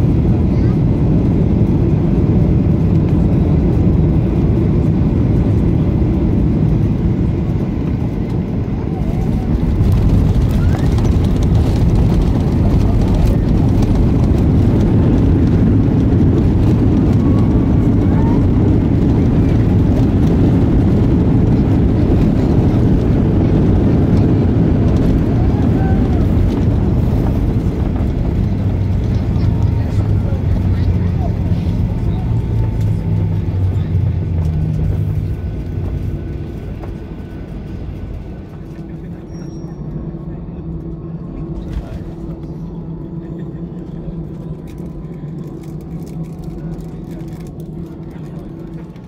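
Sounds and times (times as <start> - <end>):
jet airliner cabin rumble: 0.0 - 49.0.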